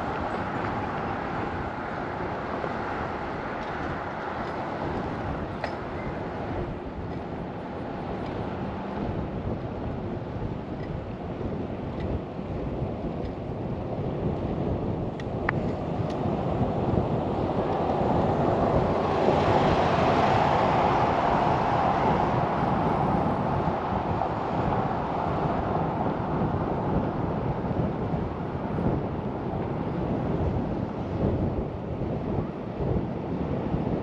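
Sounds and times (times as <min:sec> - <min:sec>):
wind and road noise rushing: 0:00.0 - 0:34.0.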